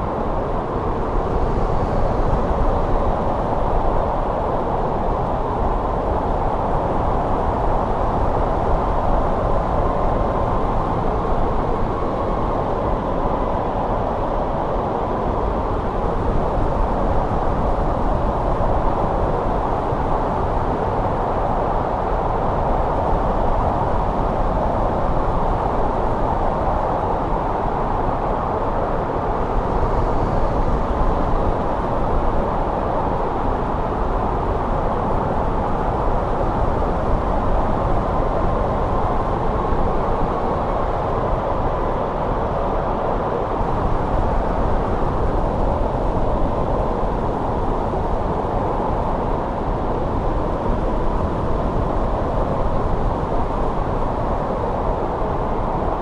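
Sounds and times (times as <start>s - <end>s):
winter wind blowing: 0.0s - 56.0s.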